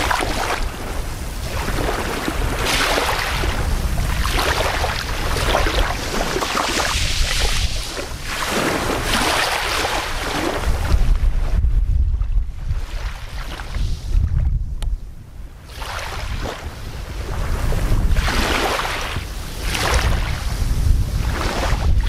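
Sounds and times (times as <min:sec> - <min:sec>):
waves lapping on shore: 0:00.0 - 0:14.2, 0:15.5 - 0:22.0.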